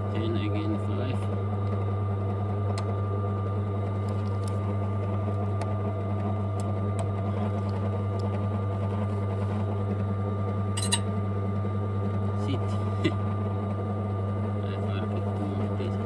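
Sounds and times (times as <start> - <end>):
key cutting machine running: 0.0 - 16.0.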